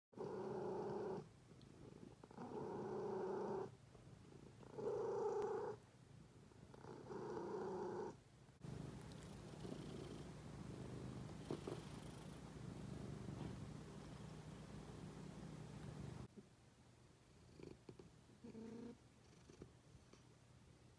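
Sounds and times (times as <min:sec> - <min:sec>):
cat purring: 0:00.2 - 0:05.8, 0:06.4 - 0:16.3, 0:17.2 - 0:20.3.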